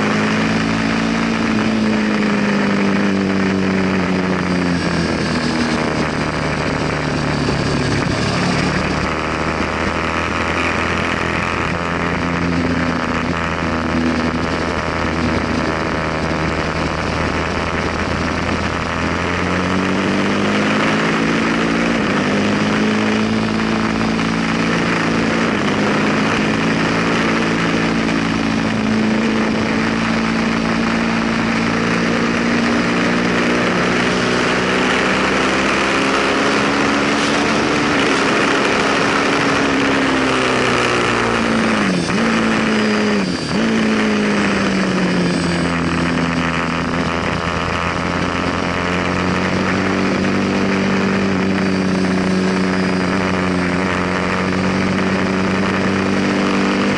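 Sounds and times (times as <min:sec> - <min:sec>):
wind rush: 0:00.0 - 0:47.5
motorcycle engine at high revs: 0:00.0 - 0:56.9.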